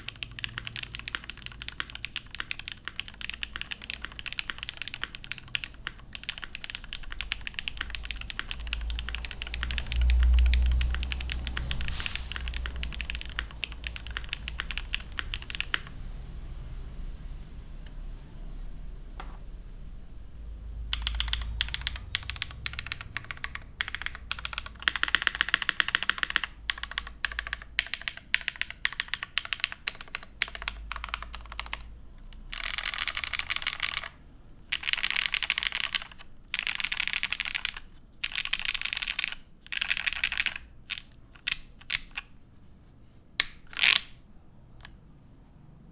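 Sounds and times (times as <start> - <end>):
mechanical keyboard typing: 0.0 - 16.0, 20.7 - 42.3, 43.4 - 44.2.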